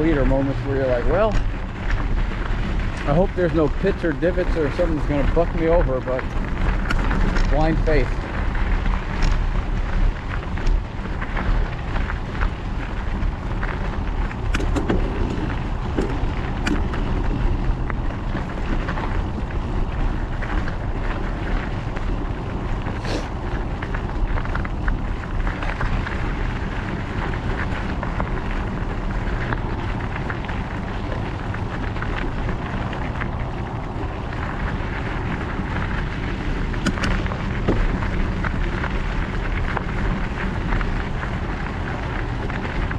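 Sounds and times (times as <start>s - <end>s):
bike tyres rolling on gravel: 0.0s - 42.9s
wind buffeting microphone: 0.0s - 42.9s
bike clicks and knocks: 1.1s - 22.8s, 23.7s - 42.9s.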